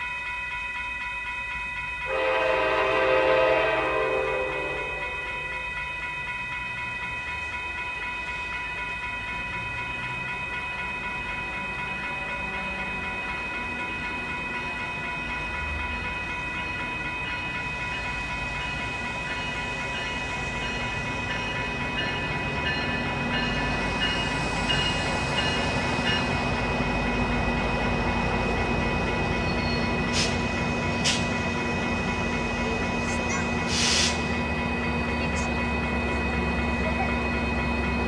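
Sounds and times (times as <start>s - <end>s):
crossing signal bell ringing: 0.0s - 38.0s
diesel train rumble: 2.1s - 38.0s.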